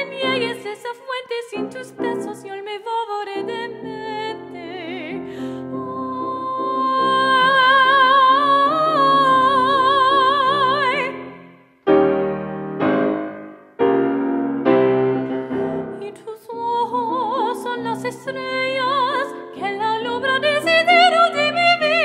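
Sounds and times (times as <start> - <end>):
woman singing with vibrato: 0.0 - 11.3, 15.6 - 22.0
grand piano chords: 3.4 - 22.0.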